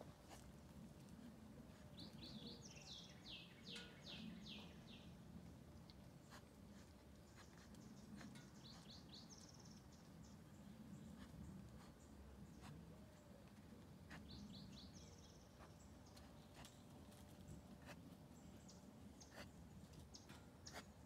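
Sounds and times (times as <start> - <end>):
faint bird song: 0.0 - 21.0.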